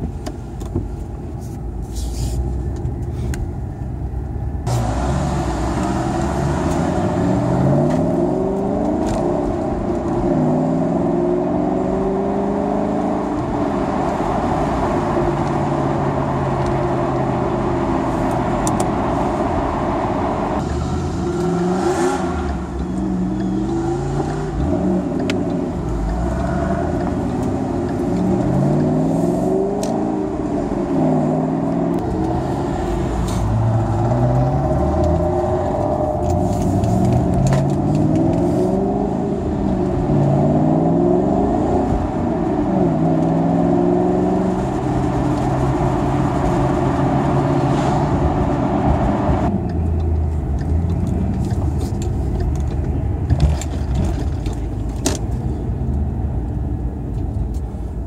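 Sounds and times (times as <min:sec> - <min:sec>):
road noise: 0:00.0 - 0:58.0
car engine accelerating: 0:03.8 - 0:58.0.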